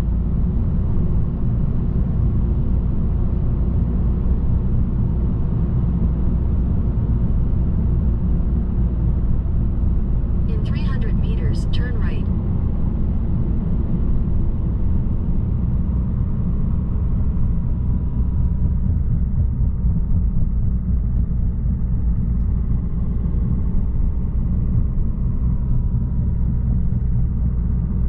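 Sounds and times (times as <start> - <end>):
car cabin road rumble: 0.0 - 28.0.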